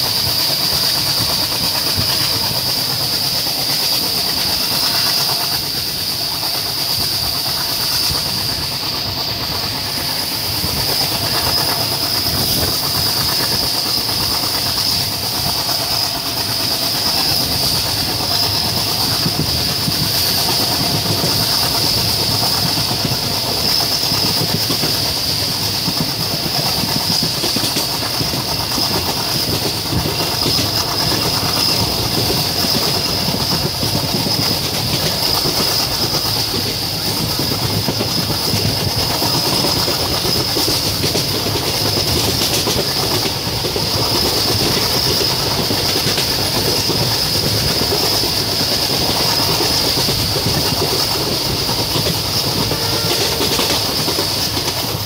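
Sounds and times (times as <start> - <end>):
rushing air hiss: 0.0 - 55.0
train wheels clickety-clack: 0.0 - 55.0.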